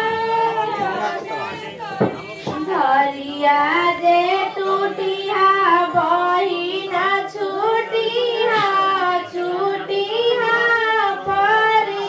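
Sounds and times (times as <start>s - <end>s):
person singing folk song: 0.0s - 12.0s.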